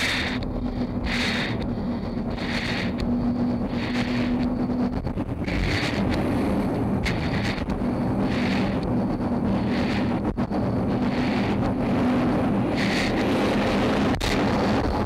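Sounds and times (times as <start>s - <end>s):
swelling hiss: 0.0s - 14.5s
jet aircraft roar in cockpit: 0.0s - 15.0s
wind rush: 0.0s - 15.0s.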